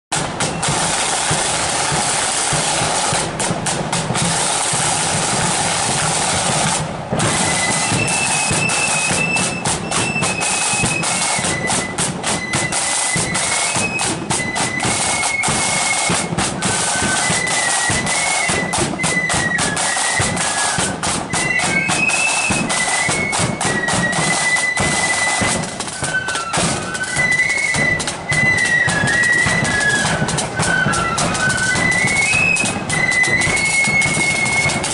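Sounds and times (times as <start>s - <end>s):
flutes playing high tune: 0.1s - 34.9s
side drums and bass drum: 0.1s - 34.9s.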